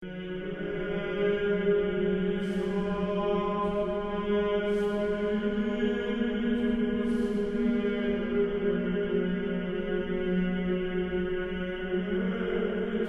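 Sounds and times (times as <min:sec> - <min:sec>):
low chant-like drone: 0:00.0 - 0:13.0.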